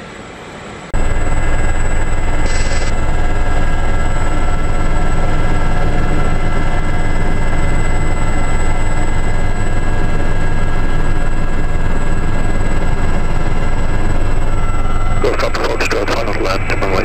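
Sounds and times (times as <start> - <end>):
turbine engine whine: 0.0 - 17.0
helicopter rotor rumble: 0.2 - 17.0.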